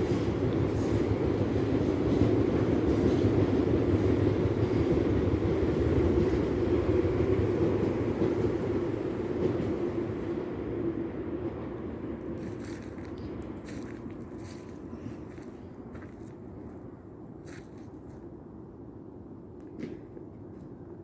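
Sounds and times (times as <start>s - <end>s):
electric train rumbling past: 0.0s - 21.0s.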